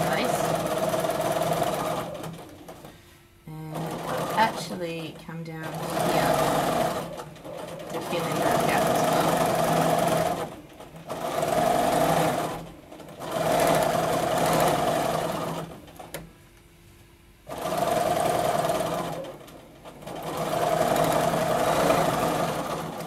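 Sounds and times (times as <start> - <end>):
sewing machine stitching: 0.0 - 3.0, 3.6 - 16.2, 17.5 - 23.0.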